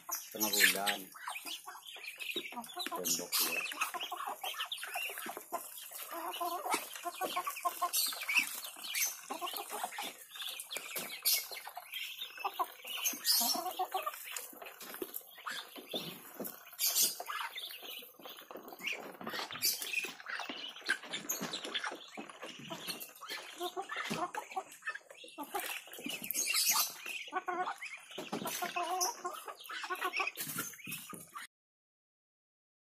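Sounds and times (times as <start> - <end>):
chickens clucking: 0.0 - 31.5.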